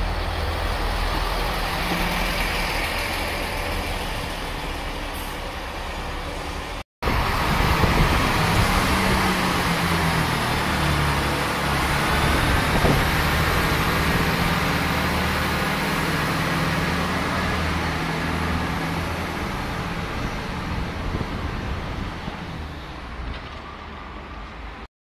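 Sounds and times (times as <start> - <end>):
diesel engines droning: 0.0 - 24.8
train wheel and rail noise: 0.0 - 24.8.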